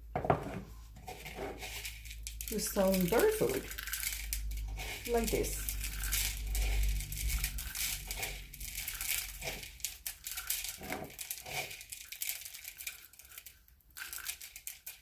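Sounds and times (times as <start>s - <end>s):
dry seeds crackling and rustling: 0.7s - 15.0s.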